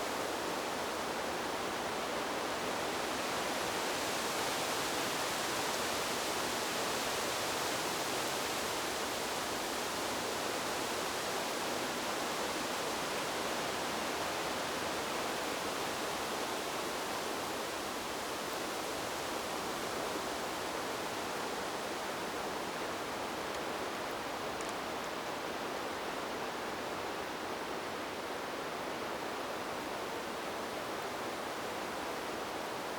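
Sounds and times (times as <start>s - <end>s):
wind rustling tree leaves: 0.0s - 32.9s.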